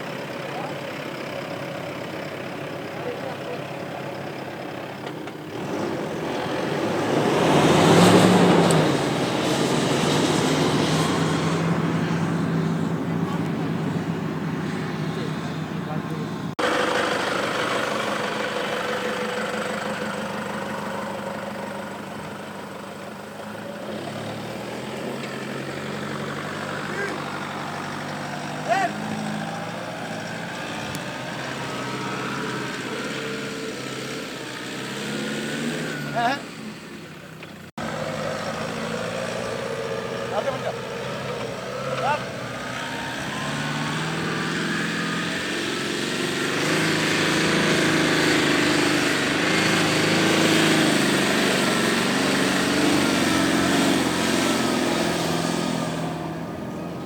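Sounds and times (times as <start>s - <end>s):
diesel engine working hard: 0.0s - 57.0s.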